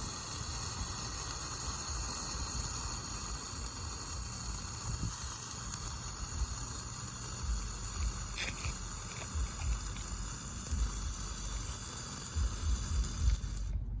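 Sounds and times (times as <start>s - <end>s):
sparkler hissing and crackling: 0.0s - 13.8s.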